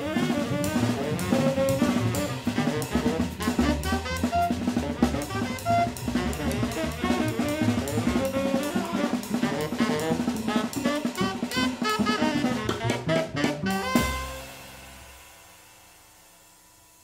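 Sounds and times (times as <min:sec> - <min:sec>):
upright bass: 0:00.0 - 0:14.5
tenor saxophone: 0:00.0 - 0:15.1
drum kit and cymbal strikes: 0:00.0 - 0:17.0.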